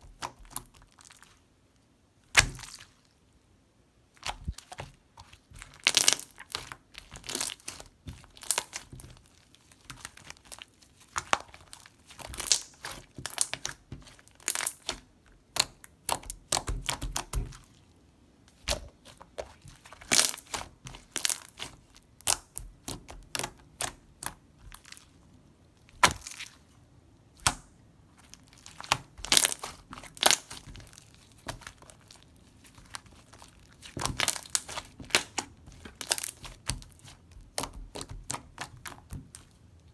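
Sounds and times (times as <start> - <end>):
slime crackling and popping: 2.3 - 2.9, 4.2 - 17.6, 18.5 - 25.0, 25.9 - 26.6, 27.4 - 39.5.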